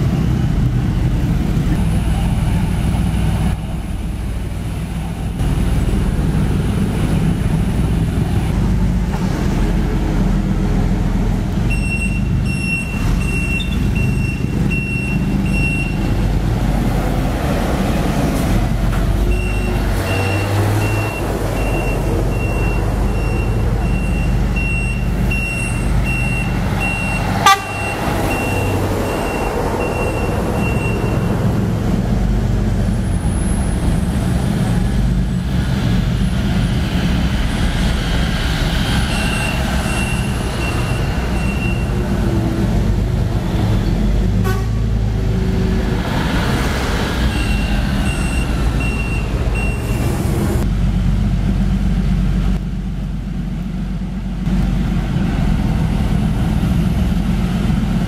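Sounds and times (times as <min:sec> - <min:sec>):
heavy truck engines rumbling: 0:00.0 - 0:58.0.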